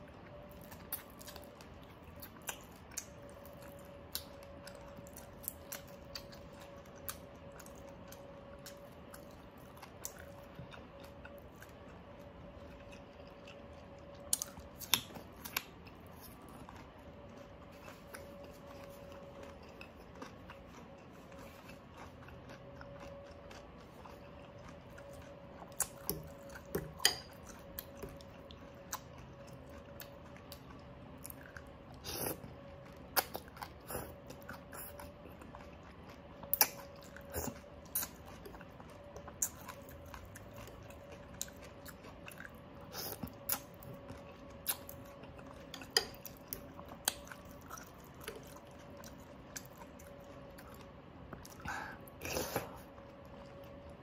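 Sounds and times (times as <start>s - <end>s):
chewing crispy meat: 0.0s - 54.0s
faint steady hum: 0.0s - 54.0s.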